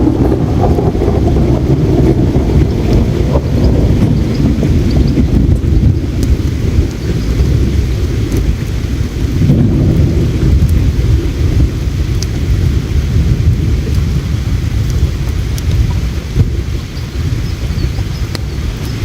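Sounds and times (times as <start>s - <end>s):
campfire crackling: 0.0s - 19.0s
low outdoor rumble: 0.0s - 19.0s.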